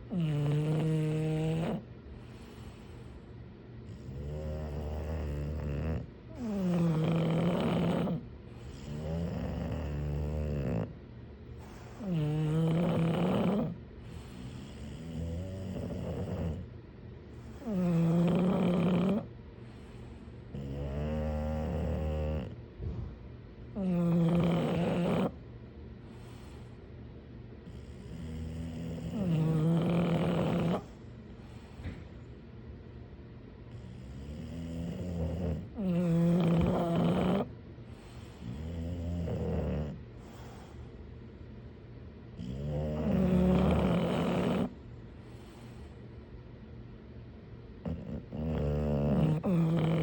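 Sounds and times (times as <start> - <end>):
dog breathing: 0.0 - 25.4, 26.0 - 32.9, 33.6 - 46.5, 47.6 - 50.0
dog snoring: 0.0 - 26.9, 27.6 - 32.2, 33.6 - 41.0, 42.3 - 46.4, 47.7 - 50.0.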